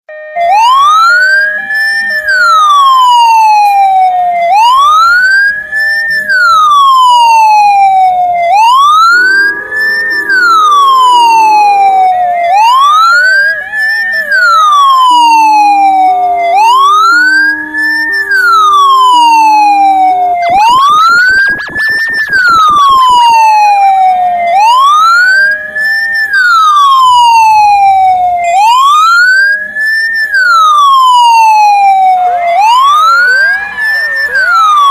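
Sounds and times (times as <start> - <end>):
ambulance siren wailing: 0.1 - 34.9
fainter alternating siren tones: 0.1 - 34.9.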